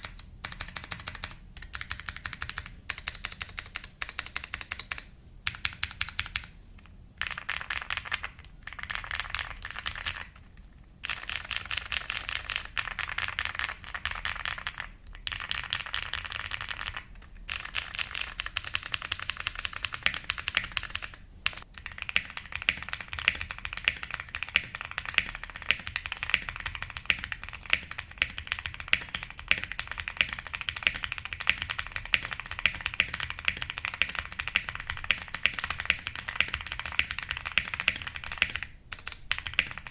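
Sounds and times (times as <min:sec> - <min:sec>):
mechanical keyboard typing: 0:00.0 - 0:06.5, 0:07.2 - 0:39.9.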